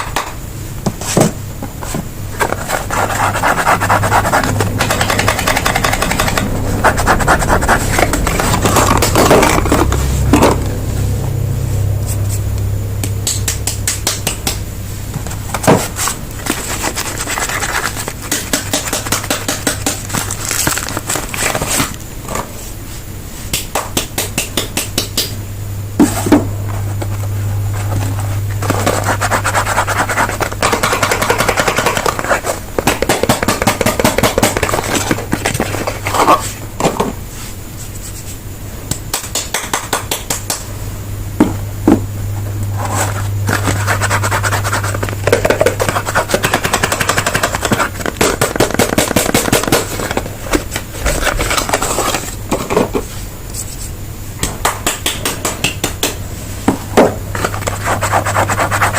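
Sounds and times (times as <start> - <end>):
low steady hum: 0.0 - 58.9.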